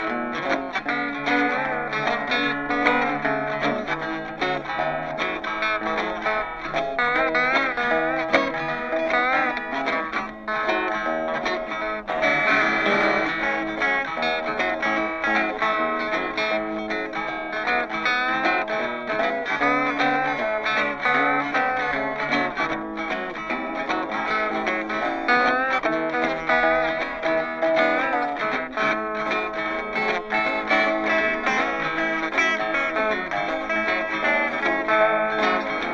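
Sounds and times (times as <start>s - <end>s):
guitar music: 0.0s - 35.9s.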